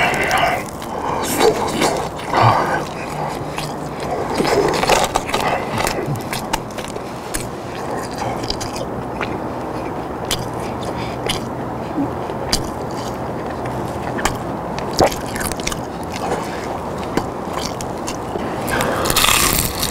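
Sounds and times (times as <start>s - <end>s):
person chewing crispy chicken: 0.0s - 19.9s.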